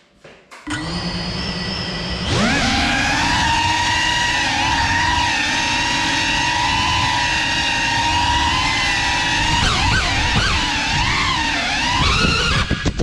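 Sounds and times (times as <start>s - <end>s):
drone motors whining: 0.6s - 13.0s.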